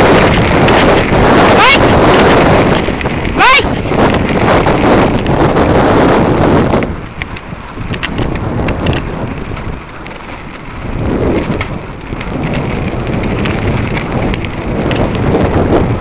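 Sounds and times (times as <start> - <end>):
bicycle tyres rumbling on trail: 0.0 - 16.0
crackles and ticks: 0.0 - 16.0
wind buffeting microphone: 0.0 - 16.0.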